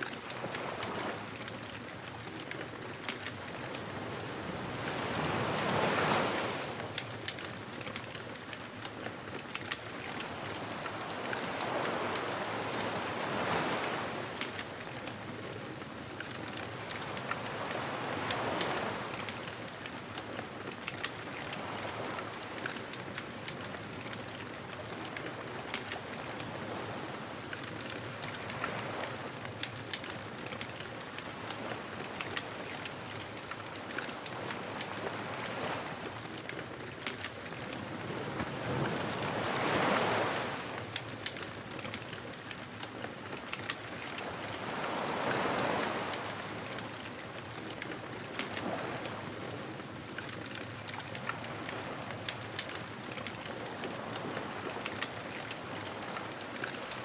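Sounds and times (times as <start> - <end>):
bonfire crackling: 0.0 - 57.0
surf washing onto beach: 0.0 - 57.0.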